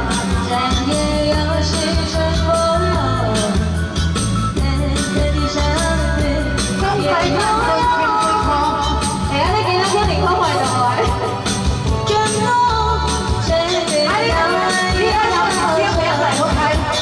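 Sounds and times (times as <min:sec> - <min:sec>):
pop song with singer and band: 0:00.0 - 0:17.0.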